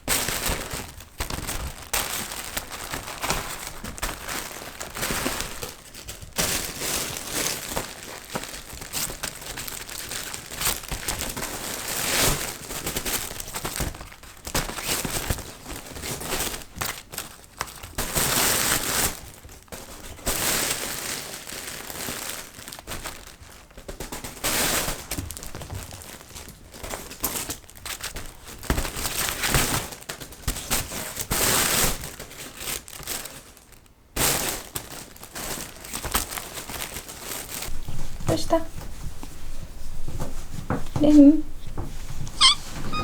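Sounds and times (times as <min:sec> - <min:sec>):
crinkly material rustling: 0:00.0 - 0:43.0.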